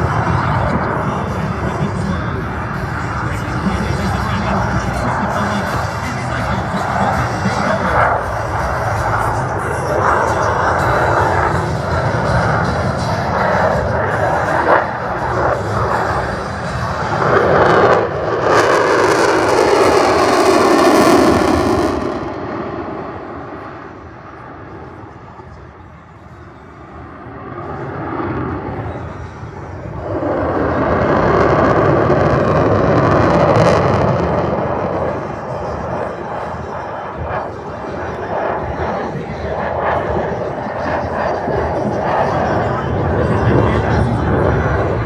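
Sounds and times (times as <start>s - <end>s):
aircraft flying past: 0.0s - 45.0s.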